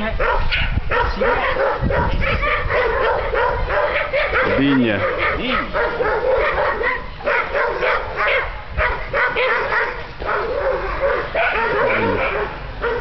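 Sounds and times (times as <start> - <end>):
dog barking rapidly: 0.2 - 13.0.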